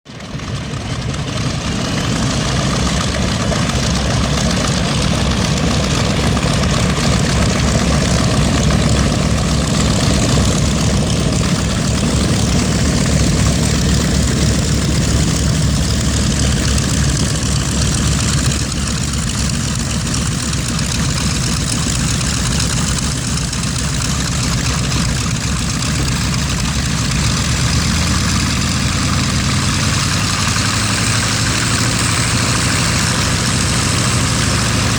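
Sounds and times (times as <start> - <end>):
twin radial aircraft engines running: 0.1 - 34.9.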